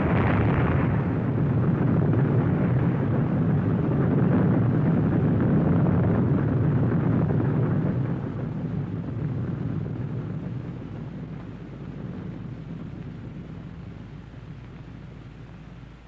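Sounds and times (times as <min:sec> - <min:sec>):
bomb blast rumbling: 0:00.0 - 0:16.0.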